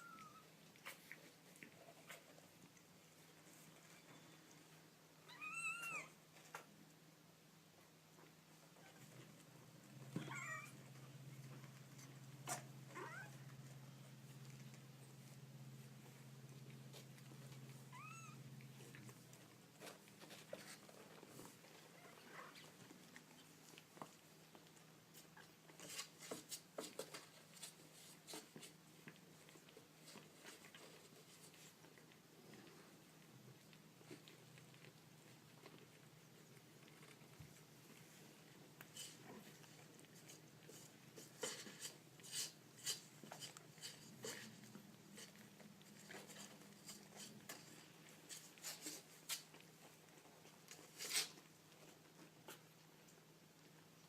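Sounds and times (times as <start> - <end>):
low steady hum: 0.0 - 54.0
light scratching and tapping: 8.1 - 53.9.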